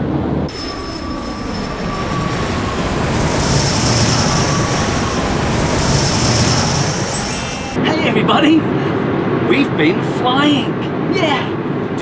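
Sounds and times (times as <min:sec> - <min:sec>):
jet airliner in flight: 0:00.0 - 0:12.0.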